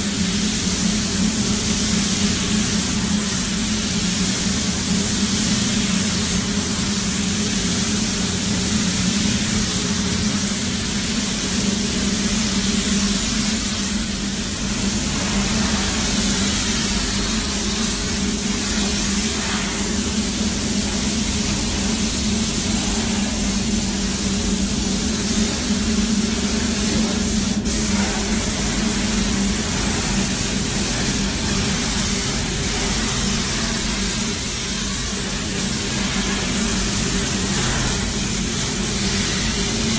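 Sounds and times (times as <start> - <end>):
paint spray gun hissing: 0.0 - 39.9
steady low hum: 0.0 - 39.9.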